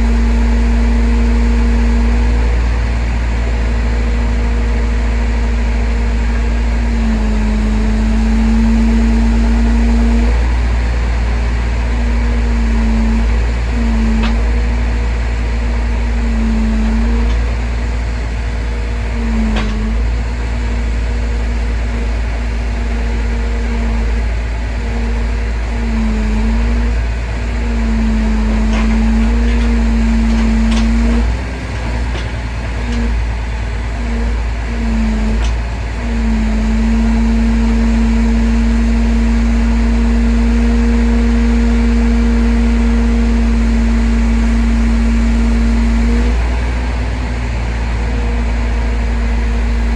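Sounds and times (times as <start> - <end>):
engine low rumble: 0.0 - 49.9
hydraulic whine: 0.0 - 49.9.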